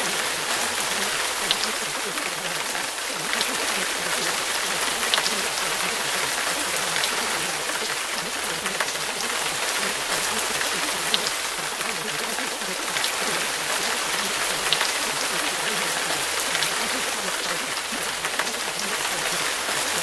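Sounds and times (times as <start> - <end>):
rain drop ticks: 0.0 - 20.0
rain hiss: 0.0 - 20.0.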